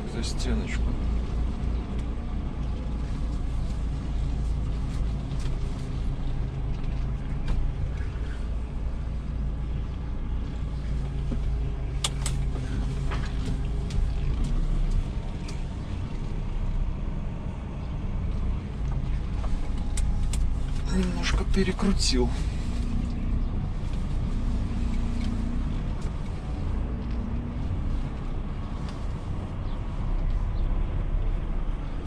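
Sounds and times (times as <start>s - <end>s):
truck diesel engine droning: 0.0s - 32.0s.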